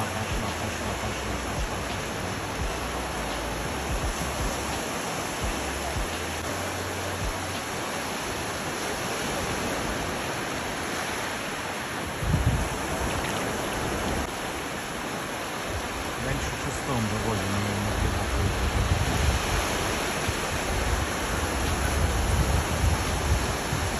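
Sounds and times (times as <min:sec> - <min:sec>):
surf rushing: 0:00.0 - 0:23.9.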